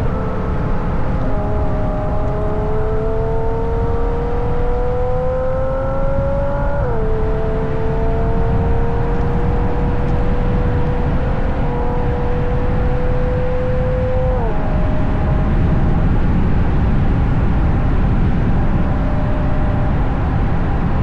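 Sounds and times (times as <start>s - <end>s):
car engine accelerating: 0.0s - 21.0s
road and wind rumble: 0.0s - 21.0s.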